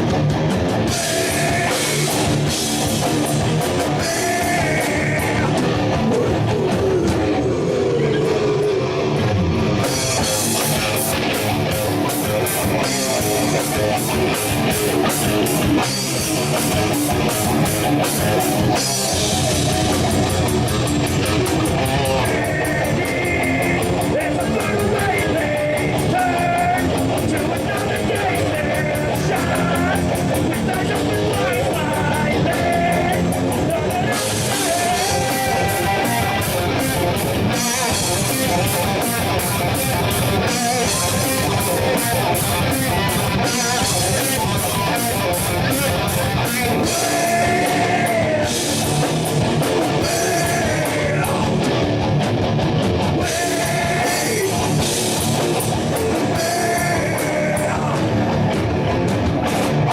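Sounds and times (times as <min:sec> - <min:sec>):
electric guitar melody: 0:00.0 - 0:59.9.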